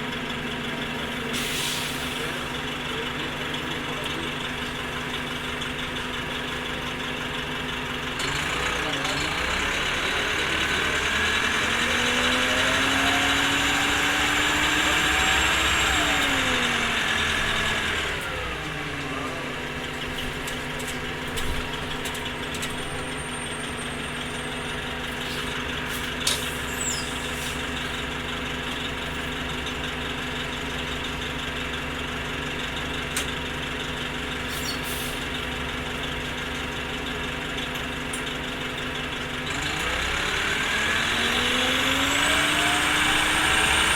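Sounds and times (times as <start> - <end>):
bus engine idling: 0.0 - 43.9
bus engine whining: 0.0 - 43.9.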